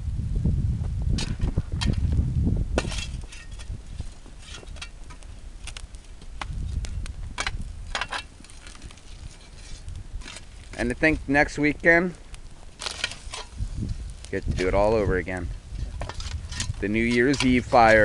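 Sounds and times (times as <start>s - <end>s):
bonfire crackling: 0.0s - 18.0s
sharp fire pops: 0.7s - 18.0s.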